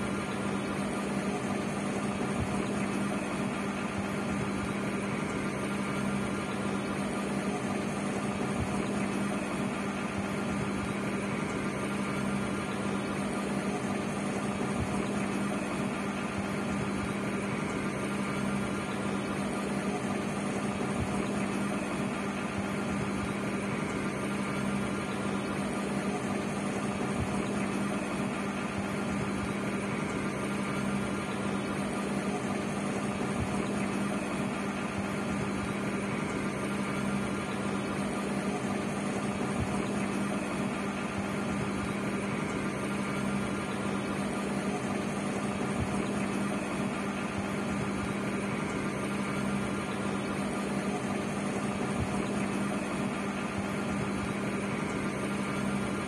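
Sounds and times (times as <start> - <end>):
air pump humming: 0.0 - 56.0.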